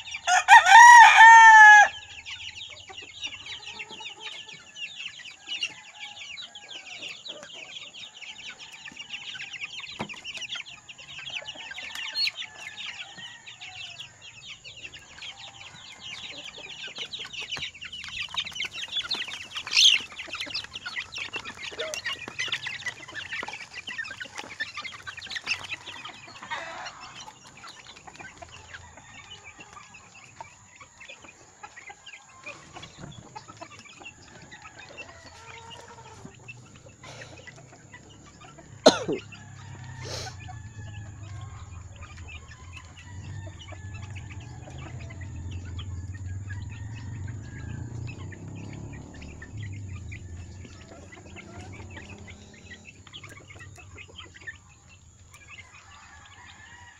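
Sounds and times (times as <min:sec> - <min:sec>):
chicks peeping: 0:00.0 - 0:56.9.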